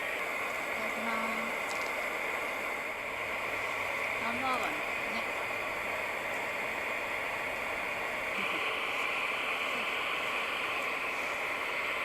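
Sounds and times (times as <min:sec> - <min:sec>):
rushing hissing noise: 0:00.0 - 0:12.0.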